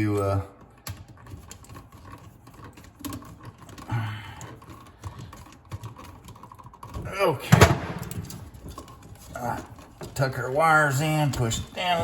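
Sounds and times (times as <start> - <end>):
wires clicking and scraping: 0.0 - 12.0.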